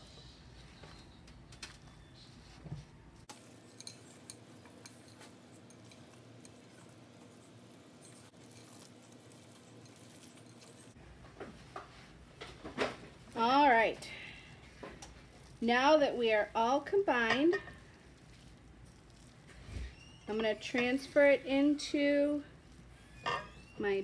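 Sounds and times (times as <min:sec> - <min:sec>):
hands kneading ground meat: 0:01.6 - 0:12.3, 0:13.0 - 0:24.0
wooden spoon stirring: 0:03.2 - 0:24.0.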